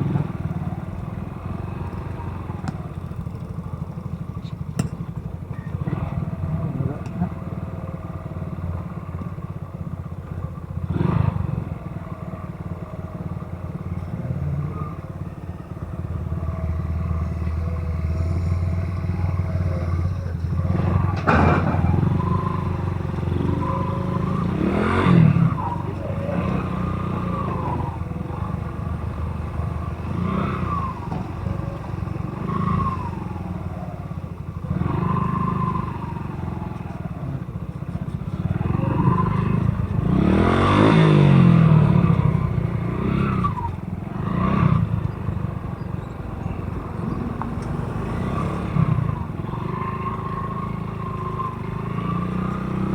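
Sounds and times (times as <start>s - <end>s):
motorcycle engine running: 0.0s - 52.9s
road and traffic noise: 0.0s - 52.9s.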